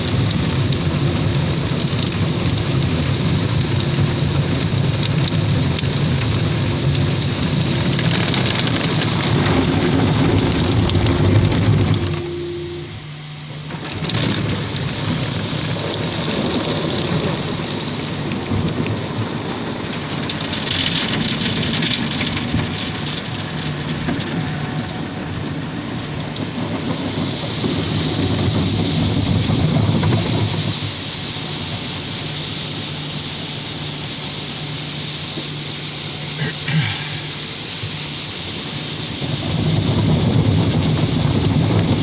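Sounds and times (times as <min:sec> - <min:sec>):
car wash water spray hissing: 0:00.0 - 0:42.0
low pump hum: 0:00.0 - 0:42.0.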